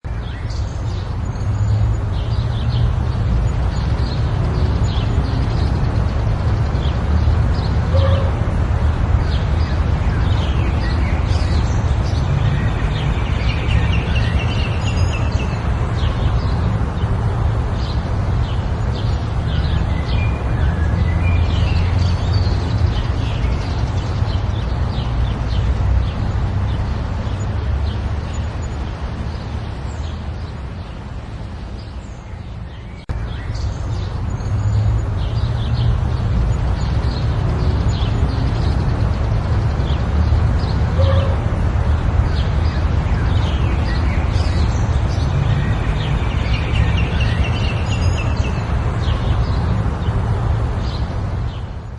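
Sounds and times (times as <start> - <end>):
birds chirping: 0.2 - 51.9.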